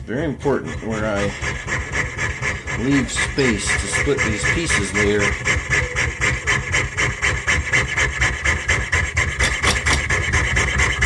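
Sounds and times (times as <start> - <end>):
saw blade rasping through metal: 0.2 - 11.0.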